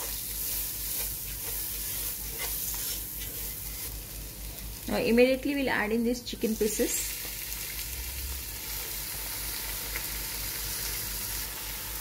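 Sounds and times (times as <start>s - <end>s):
chicken sizzling in a pot: 0.0s - 5.6s, 6.3s - 12.0s.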